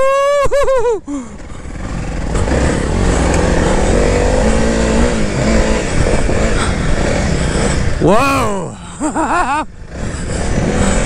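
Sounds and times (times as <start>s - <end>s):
dirt bike engine running: 0.7s - 11.0s.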